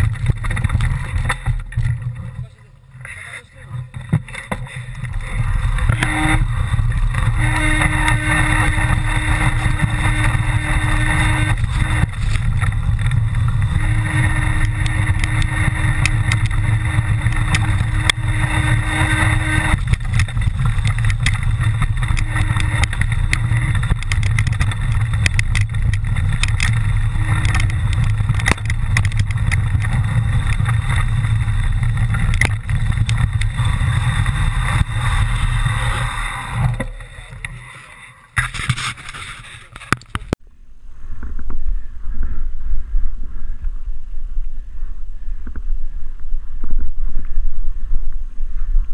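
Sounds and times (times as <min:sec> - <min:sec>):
bike rattles and clicks: 0:00.0 - 0:40.4
bike low rumble: 0:00.0 - 0:48.9
pitched whine: 0:00.0 - 0:48.9.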